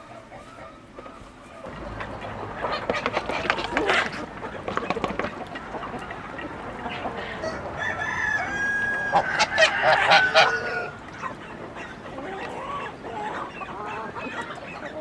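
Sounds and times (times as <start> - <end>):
poultry harsh calls: 0.0 - 15.0.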